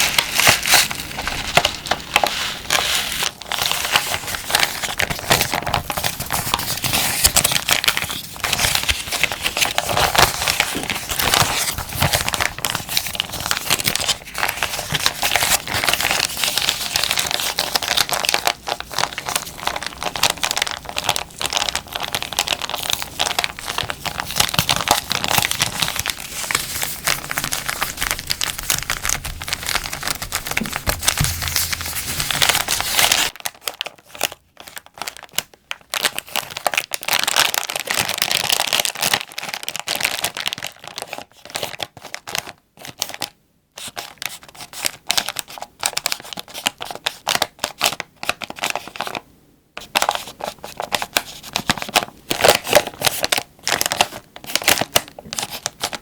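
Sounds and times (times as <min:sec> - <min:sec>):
plastic packaging crinkling: 0:00.0 - 0:49.2, 0:49.8 - 0:56.0.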